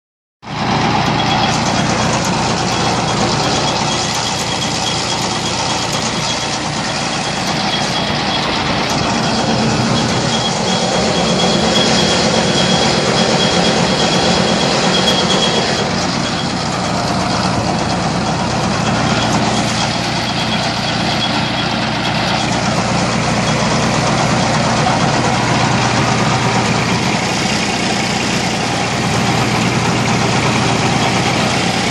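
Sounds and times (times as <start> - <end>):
tractor engine running: 0.4 - 31.9
thin high whine: 0.9 - 31.9.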